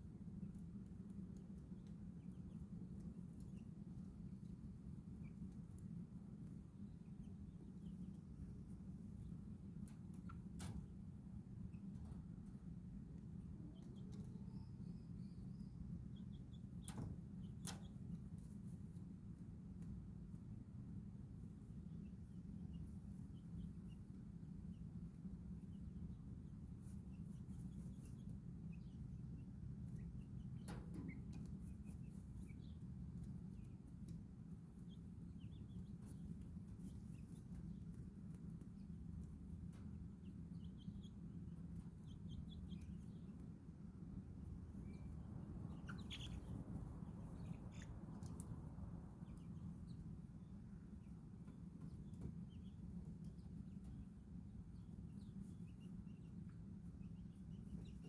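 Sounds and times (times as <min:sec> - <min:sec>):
chicks and birds chirping: 0:00.0 - 0:58.0
steady low hum: 0:00.0 - 0:58.0.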